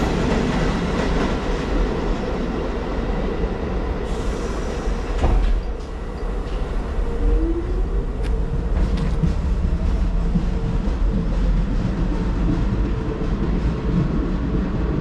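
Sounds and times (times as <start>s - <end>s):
train rumbling past: 0.0s - 15.0s
train whine: 0.0s - 15.0s.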